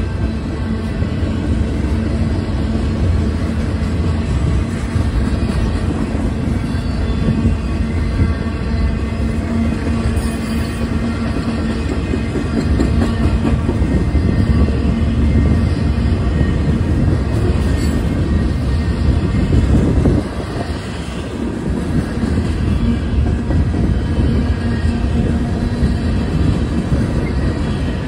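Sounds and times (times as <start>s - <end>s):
freight cars rolling on rails: 0.0s - 28.0s.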